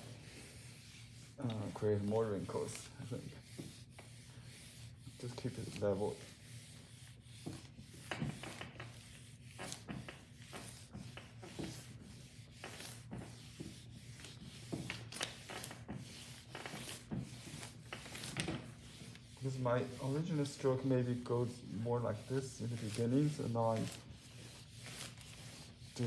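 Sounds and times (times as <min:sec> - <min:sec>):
iron swishing over paper: 0:00.0 - 0:26.0.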